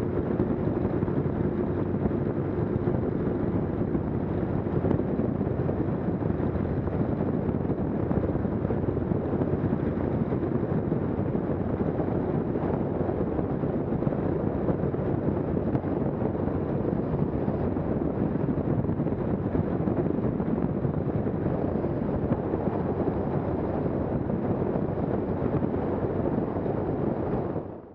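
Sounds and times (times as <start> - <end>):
aircraft engine and propeller: 0.0 - 27.9.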